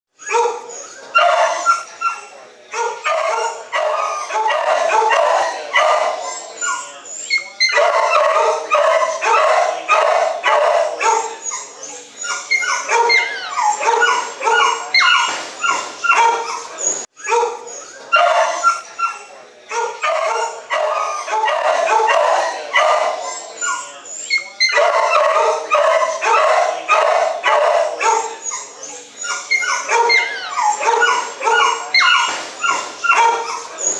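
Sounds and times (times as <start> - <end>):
dogs barking and yelping: 0.2 - 33.9
dogs whining: 0.2 - 33.9.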